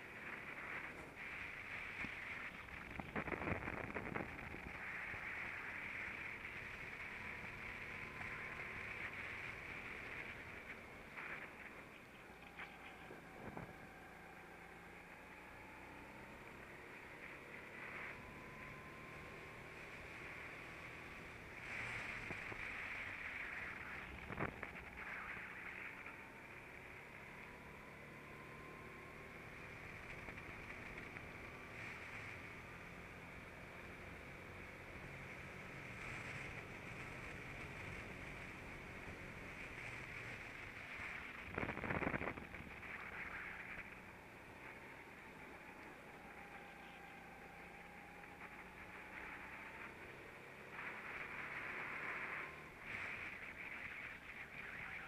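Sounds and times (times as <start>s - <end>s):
muffled go-kart engine: 0.0s - 55.0s.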